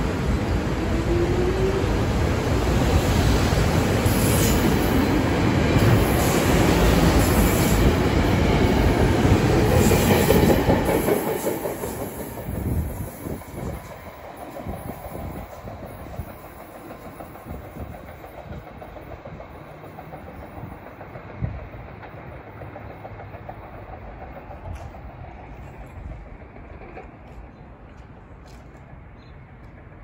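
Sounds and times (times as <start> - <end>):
train wheels clattering over rails: 3.7 - 29.0.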